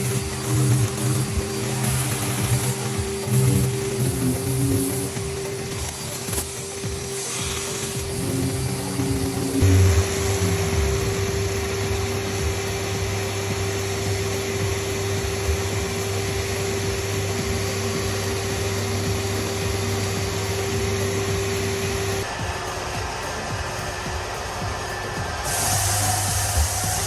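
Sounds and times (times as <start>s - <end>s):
electric motor humming: 0.0s - 27.0s.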